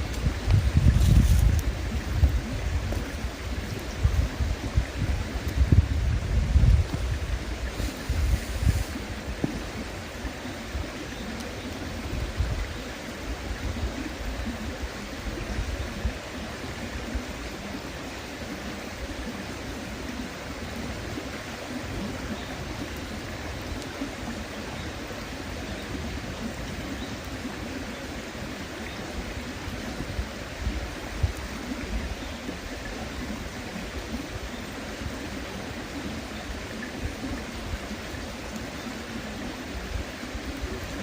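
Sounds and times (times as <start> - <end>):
river water flowing over stones: 0.0 - 41.0.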